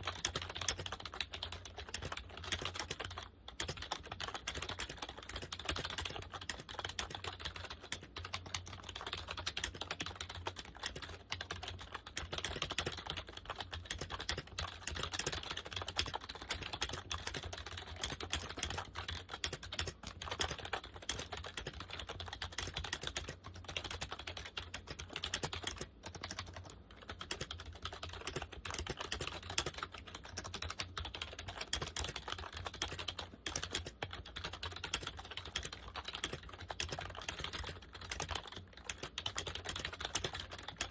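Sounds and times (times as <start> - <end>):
typing on keyboard: 0.0 - 40.9.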